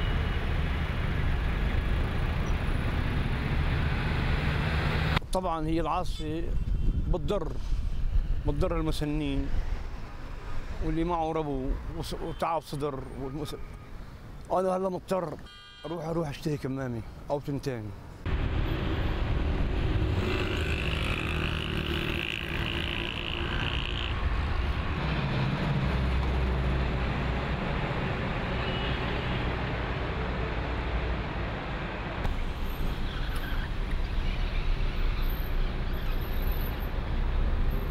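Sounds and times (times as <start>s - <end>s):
road traffic noise: 0.0s - 5.3s, 6.5s - 37.9s.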